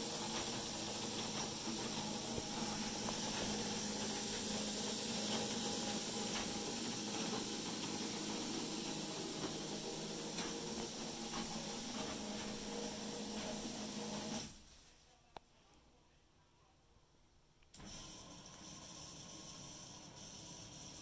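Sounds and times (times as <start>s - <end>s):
seed-dispensing machine hiss and hum: 0.0s - 14.8s, 17.8s - 21.0s.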